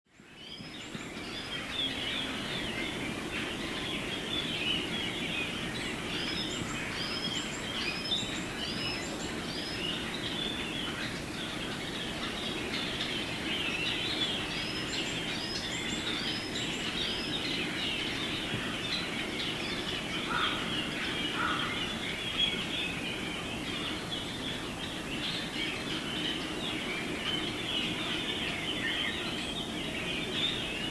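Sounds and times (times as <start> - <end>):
flock of birds chattering: 0.5 - 30.9.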